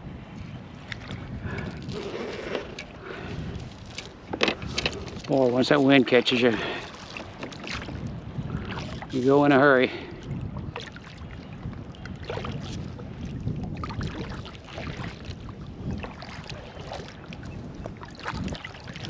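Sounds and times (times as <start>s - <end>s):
water lapping against a hull: 0.0s - 19.0s
wind buffeting microphone: 0.0s - 19.0s.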